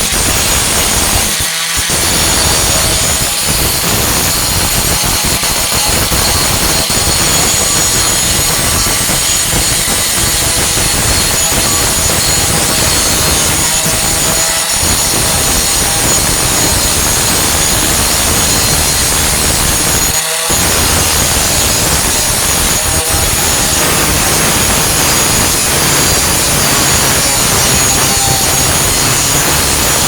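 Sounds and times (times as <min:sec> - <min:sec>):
angle grinder grinding metal: 0:00.0 - 0:30.0.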